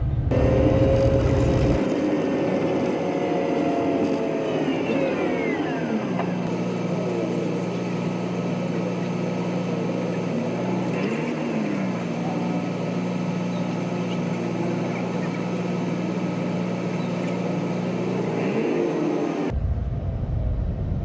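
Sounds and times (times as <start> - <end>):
vehicle engine humming: 0.0 - 20.8.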